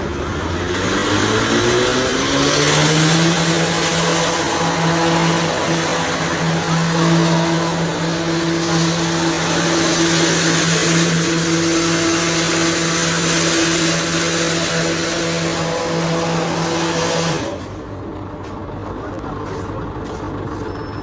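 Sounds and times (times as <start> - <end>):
motor running with hum and hiss: 0.0 - 21.0.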